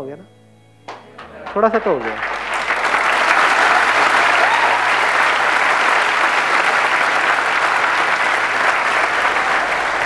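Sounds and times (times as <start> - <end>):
audience applauding: 0.9 - 10.0.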